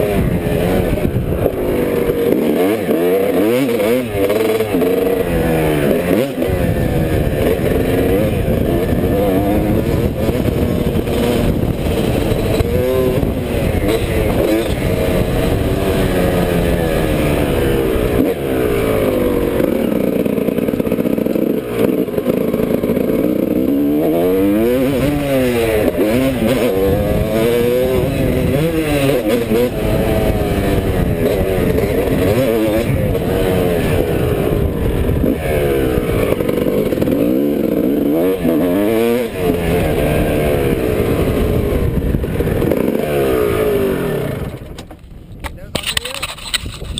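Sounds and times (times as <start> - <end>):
off-road engine revving: 0.0 - 46.9
wind rushing over camera: 0.0 - 46.9.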